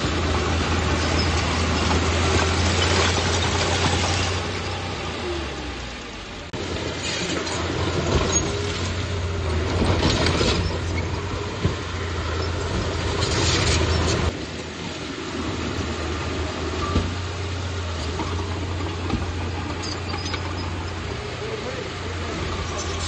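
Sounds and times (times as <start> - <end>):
track and machine clatter: 0.0 - 5.4, 6.4 - 23.0
bulldozer diesel engine drone: 0.0 - 23.0.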